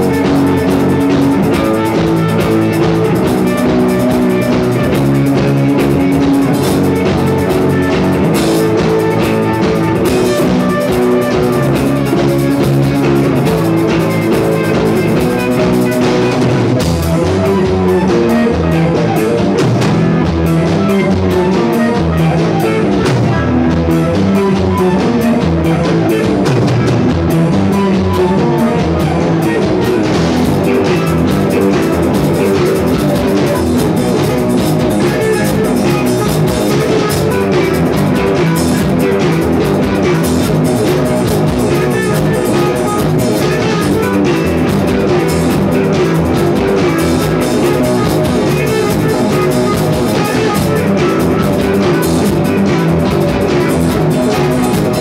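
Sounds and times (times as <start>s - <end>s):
rock music with drums and guitars: 0.0s - 55.0s.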